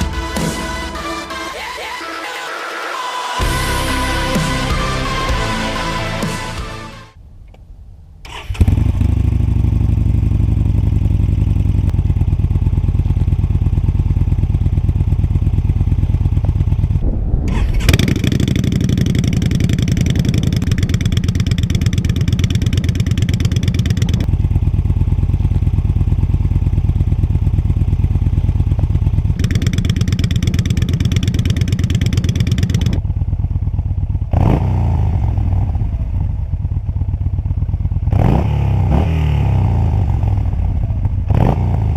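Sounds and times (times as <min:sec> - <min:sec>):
motorcycle engine idling: 0:07.2 - 0:17.1, 0:17.9 - 0:41.9
motorcycle engine revving: 0:08.2 - 0:41.9.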